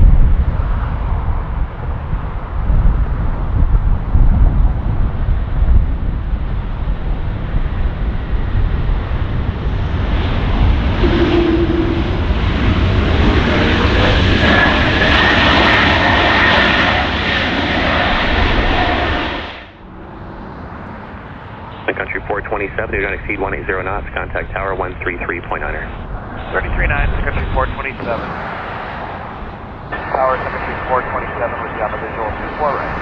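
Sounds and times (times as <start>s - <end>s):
jet engines roaring and whining: 0.1s - 33.0s.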